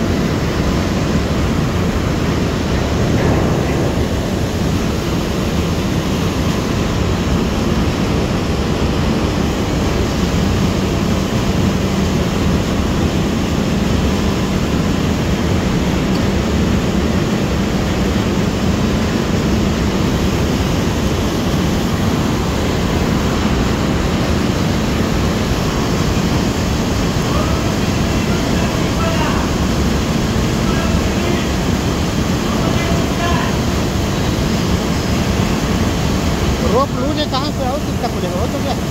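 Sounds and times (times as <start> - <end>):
crane machinery noise: 0.0 - 38.9
low hum: 0.0 - 38.9.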